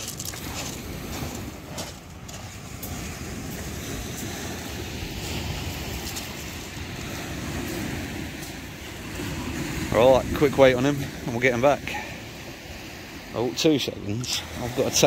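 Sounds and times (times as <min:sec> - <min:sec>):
waves on shingle beach: 0:00.0 - 0:15.0
wind buffeting microphone: 0:00.0 - 0:15.0.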